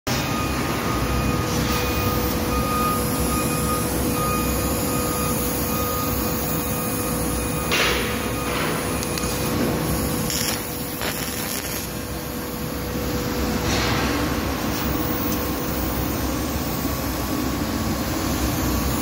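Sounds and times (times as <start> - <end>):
laser cutting machine humming: 0.1 - 19.0.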